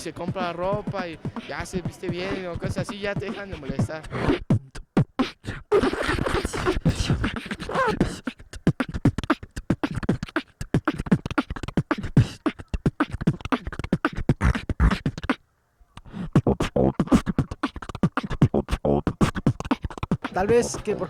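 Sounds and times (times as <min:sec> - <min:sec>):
person beatboxing: 0:00.0 - 0:15.4, 0:16.0 - 0:21.0
sliding pitched vocal sounds: 0:00.0 - 0:21.0.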